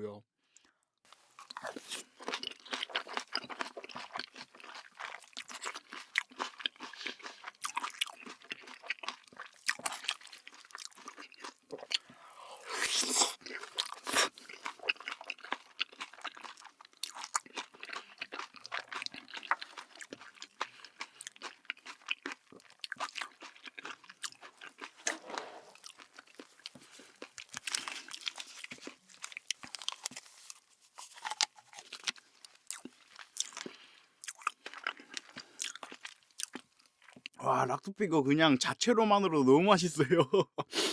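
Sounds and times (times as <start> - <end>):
person chewing crunchy food: 0.6 - 37.4.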